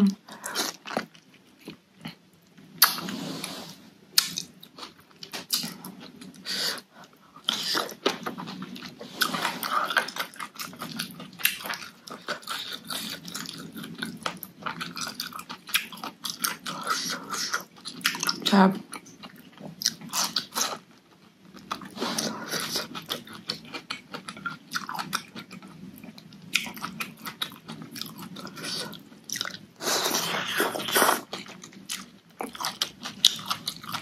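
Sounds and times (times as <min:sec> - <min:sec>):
wet chewing and lip-smacking: 0:04.2 - 0:34.0.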